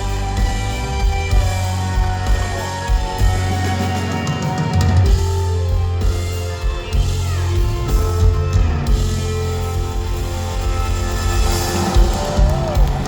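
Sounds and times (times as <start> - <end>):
country band playing: 0.0 - 13.0.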